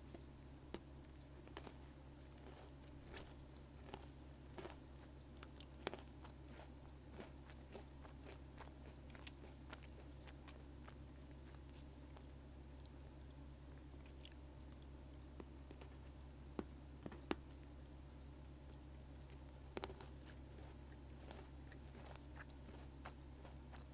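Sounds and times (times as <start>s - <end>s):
faint steady hum: 0.0s - 23.9s
crunchy biscuit stick chewing: 0.1s - 17.7s, 18.7s - 23.9s.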